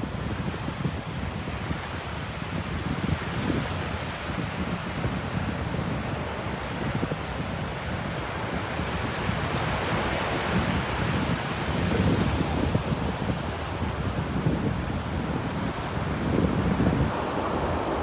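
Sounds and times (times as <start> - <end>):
ocean waves washing on beach: 0.0 - 18.0.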